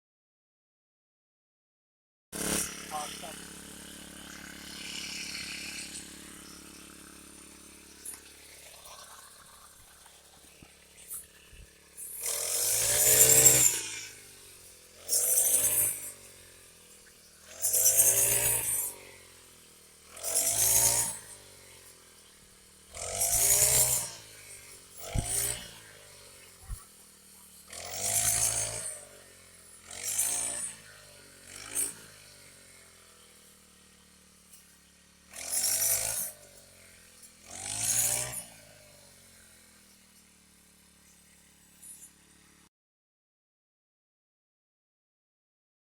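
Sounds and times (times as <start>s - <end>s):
small engine revving: 2.4s - 42.7s.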